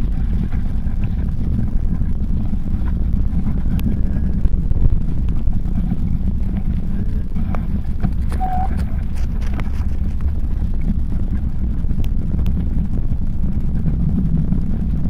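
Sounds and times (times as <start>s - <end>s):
bicycle tyres clicking on gravel: 0.0s - 15.0s
wind buffeting microphone: 0.0s - 15.0s.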